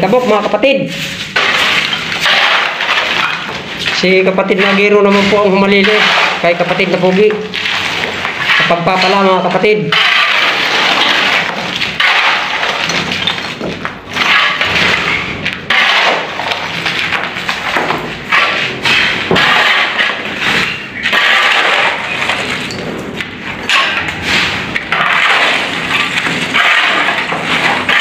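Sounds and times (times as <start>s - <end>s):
shovel scraping concrete floor: 0.0s - 28.0s.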